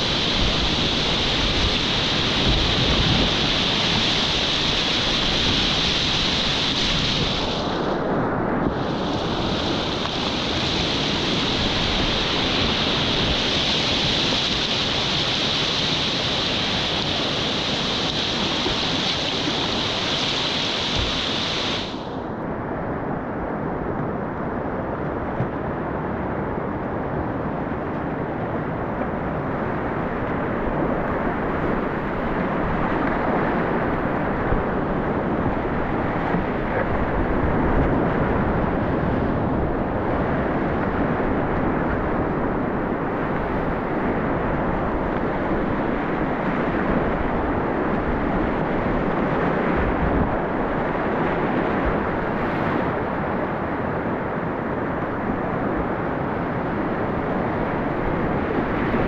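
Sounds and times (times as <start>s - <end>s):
whitewater rapids rushing: 0.0s - 8.1s, 8.7s - 22.1s, 27.8s - 59.0s.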